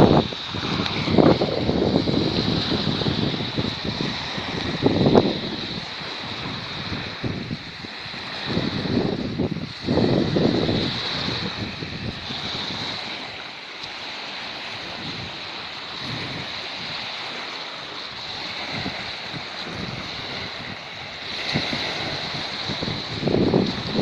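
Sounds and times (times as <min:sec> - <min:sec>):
small waves lapping on sand: 0:00.0 - 0:24.0
wind gusting on microphone: 0:00.0 - 0:24.0.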